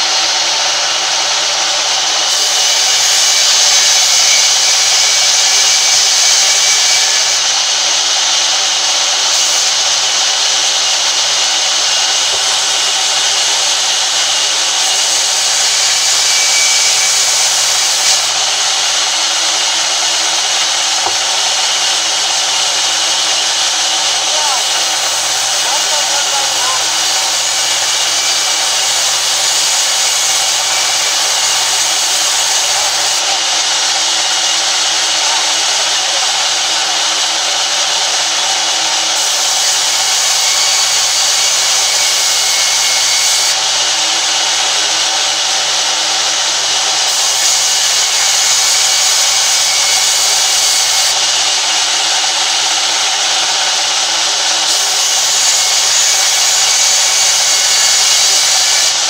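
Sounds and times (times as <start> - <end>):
band saw cutting wooden plank: 0.0 - 59.0.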